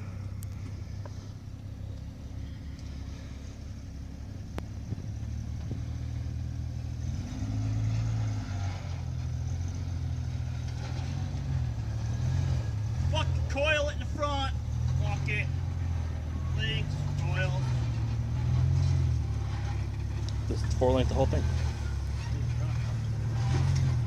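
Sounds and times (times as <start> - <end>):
vehicle engine running at low revs: 0.0 - 24.0.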